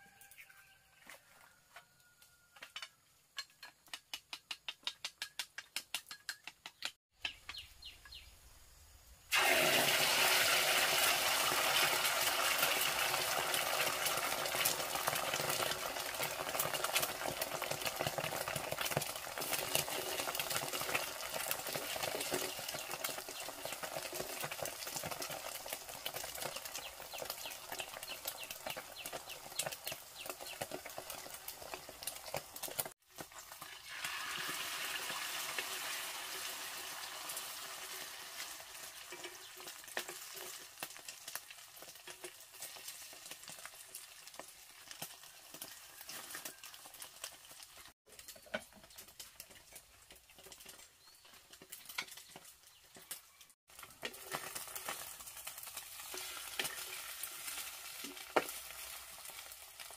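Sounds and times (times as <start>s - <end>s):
food sizzling in hot oil: 8.7s - 59.9s.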